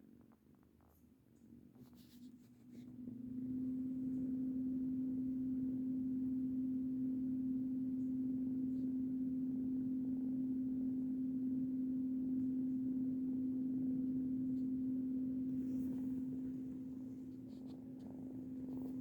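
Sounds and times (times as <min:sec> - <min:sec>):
low humming tone: 0:03.1 - 0:19.0.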